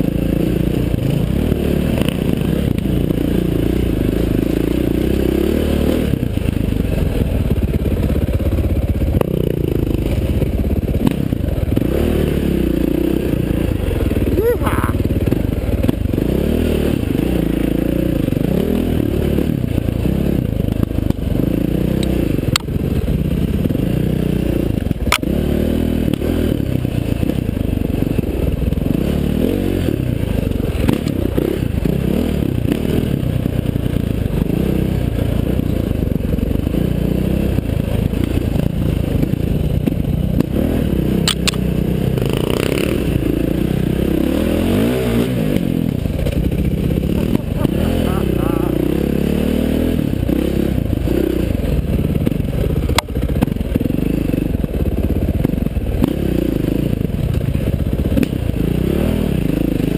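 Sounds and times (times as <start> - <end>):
dirt bike engine revving: 0.0 - 7.6, 9.0 - 59.9.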